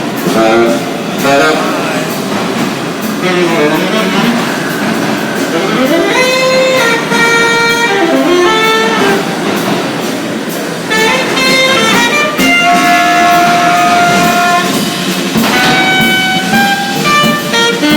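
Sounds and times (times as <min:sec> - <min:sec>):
steady background noise: 0:00.0 - 0:17.9.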